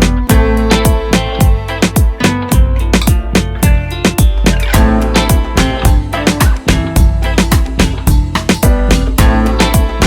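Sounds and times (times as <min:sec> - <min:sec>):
deep bass drum: 0:00.0 - 0:10.0
music with driving beat: 0:00.0 - 0:10.0.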